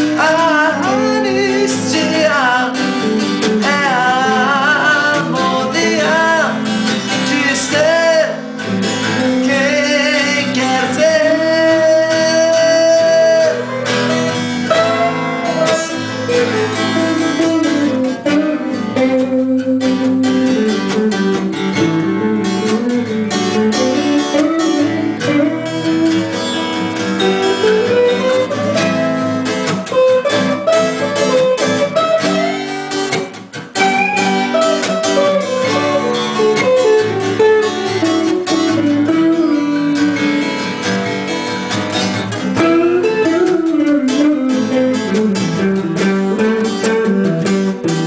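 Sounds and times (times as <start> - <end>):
acoustic guitar strumming chords: 0.0 - 48.0
electric guitar lead melody: 0.0 - 48.0.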